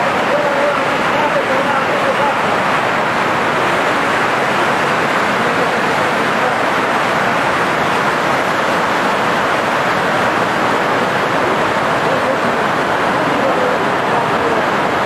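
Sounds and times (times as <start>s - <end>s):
floodwater rushing down a street: 0.0s - 15.0s.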